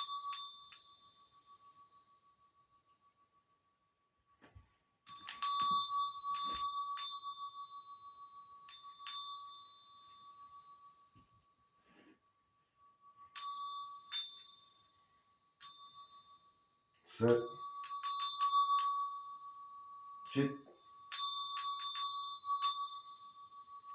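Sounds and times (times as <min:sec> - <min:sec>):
faint steady tone: 0:00.0 - 0:23.9
small high-pitched bells struck: 0:00.0 - 0:23.9.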